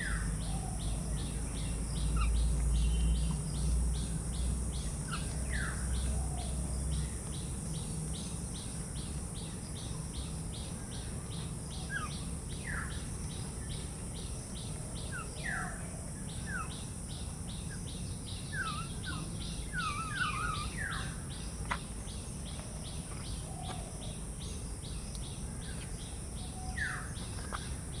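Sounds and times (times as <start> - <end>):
birds chirping: 0.0 - 28.0
pulsing insect chorus: 0.0 - 28.0.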